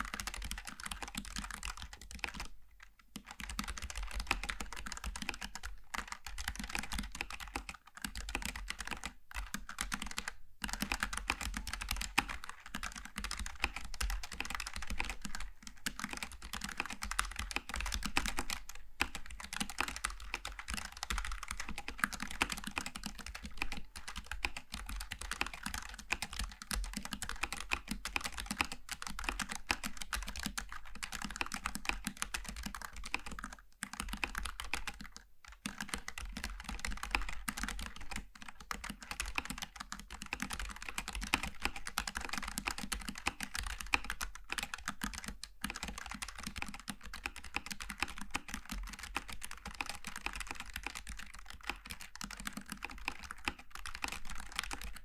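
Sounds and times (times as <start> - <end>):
fast keyboard typing: 0.0 - 2.5, 3.1 - 55.0.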